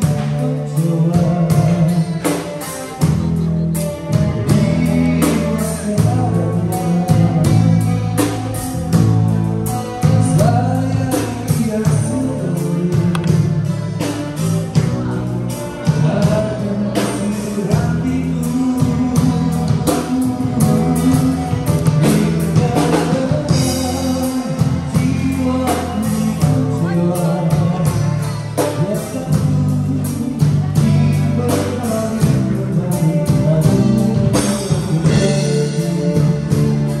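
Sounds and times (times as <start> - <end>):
live band playing: 0.0 - 37.0
person singing: 0.0 - 37.0.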